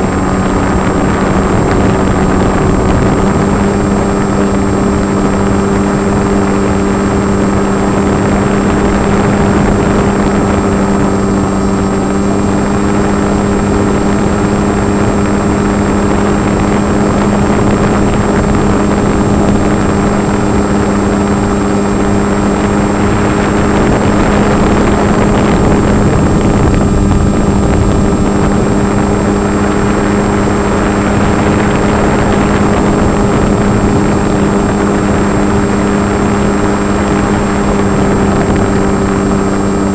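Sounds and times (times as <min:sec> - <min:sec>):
electric motor and propeller hum: 0:00.0 - 0:39.9
rushing wind: 0:00.0 - 0:39.9.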